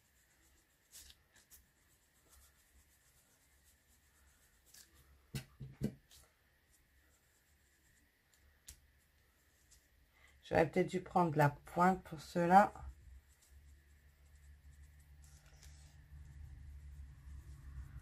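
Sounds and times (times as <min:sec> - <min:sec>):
sponge dabbing and rubbing on card: 0:00.0 - 0:18.0.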